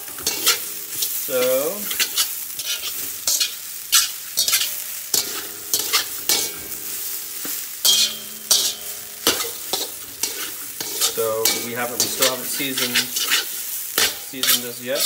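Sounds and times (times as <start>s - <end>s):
metal spatula scraping a wok: 0.0s - 15.0s
rice sizzling in a wok: 0.0s - 15.0s.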